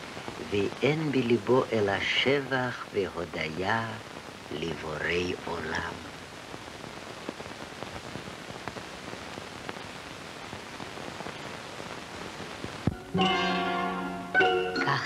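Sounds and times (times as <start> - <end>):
film soundtrack hiss and crackles: 0.0 - 15.0.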